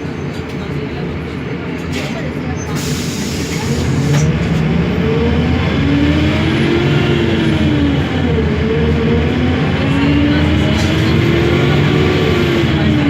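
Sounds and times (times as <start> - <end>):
bus diesel engine under load: 0.0 - 13.0.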